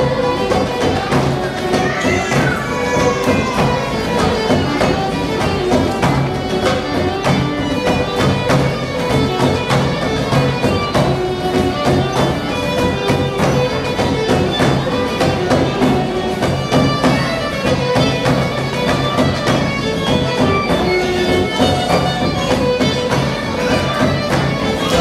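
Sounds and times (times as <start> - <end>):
bowed string melody: 0.0 - 25.0
guitars and lutes strumming: 0.0 - 25.0.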